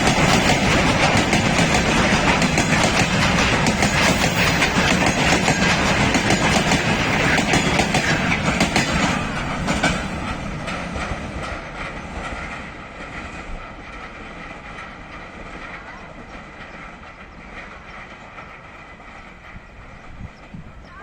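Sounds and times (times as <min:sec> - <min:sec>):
train wheels clattering over rail joints: 0:00.0 - 0:20.8.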